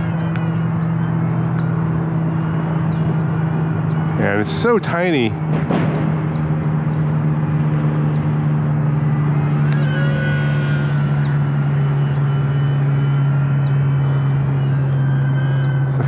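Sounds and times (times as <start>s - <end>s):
model plane motor whine: 0.0s - 4.6s, 6.2s - 16.0s
steady low hum: 0.0s - 16.0s.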